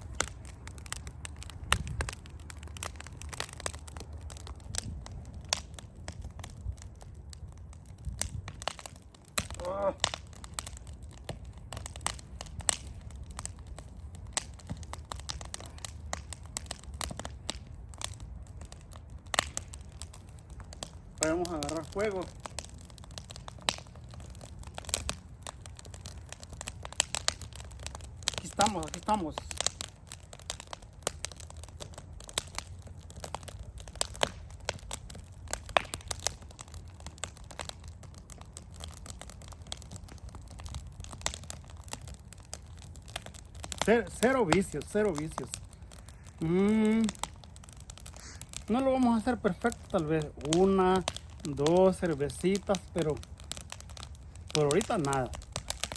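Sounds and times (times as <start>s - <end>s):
low steady rumble: 0.0s - 54.6s
campfire crackling and popping: 0.0s - 55.9s.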